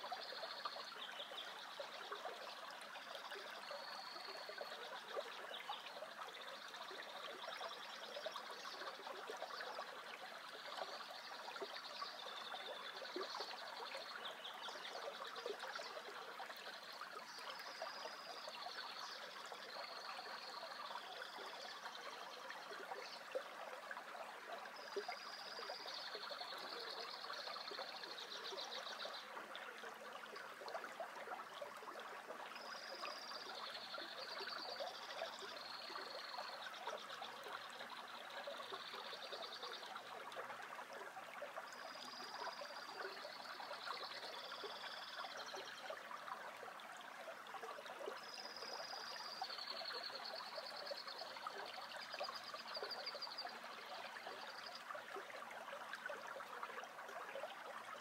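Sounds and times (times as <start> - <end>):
creek water trickling over rocks: 0.0 - 58.0.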